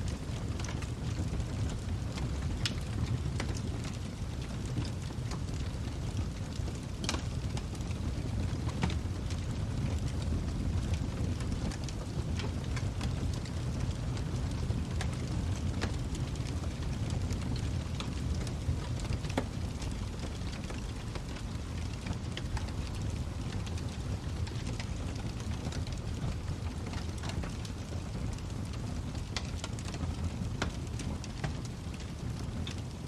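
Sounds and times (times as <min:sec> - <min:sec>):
low rumble of flames: 0:00.0 - 0:33.0
wood fire crackling: 0:00.0 - 0:33.0.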